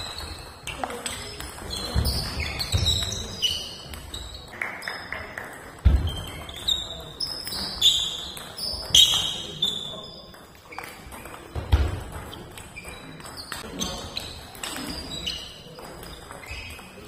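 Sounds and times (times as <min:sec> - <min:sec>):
shoes squeaking: 0:00.0 - 0:05.1, 0:05.8 - 0:17.0.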